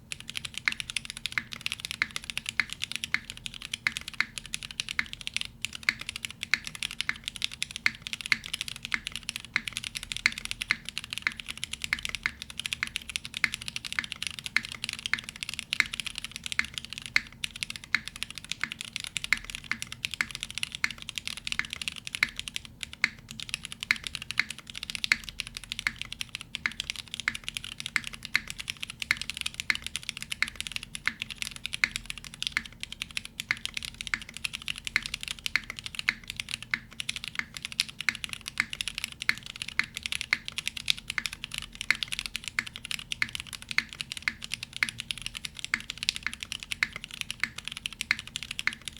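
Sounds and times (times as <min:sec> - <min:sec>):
mechanical keyboard typing: 0:00.0 - 0:48.9.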